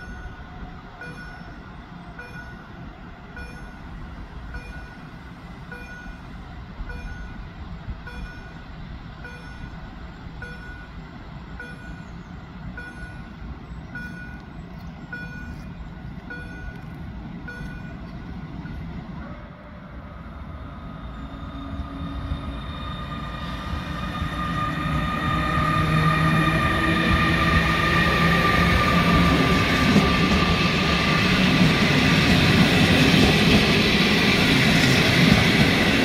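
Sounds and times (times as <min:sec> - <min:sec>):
train approaching rumble: 0:00.0 - 0:36.0.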